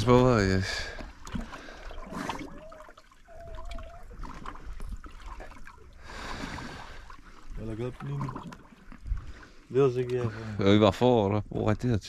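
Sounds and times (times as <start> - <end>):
water lapping against boat hull: 0.0 - 12.0
small splashes: 0.7 - 10.6.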